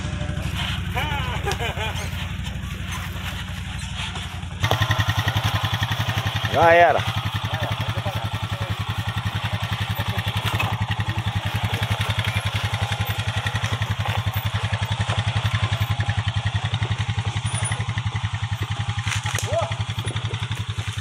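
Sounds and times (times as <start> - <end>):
atv engine idling: 0.0 - 21.0.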